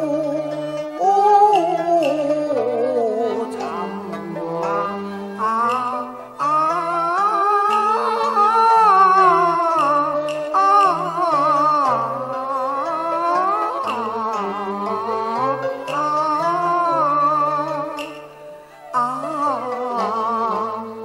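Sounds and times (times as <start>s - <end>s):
woman singing: 0.0s - 18.2s, 18.9s - 21.0s
plucked strings: 0.0s - 21.0s.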